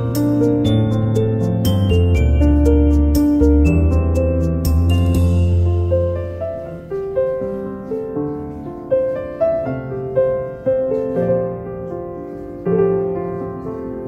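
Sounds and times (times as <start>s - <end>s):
slow gentle piano melody: 0.0s - 14.0s.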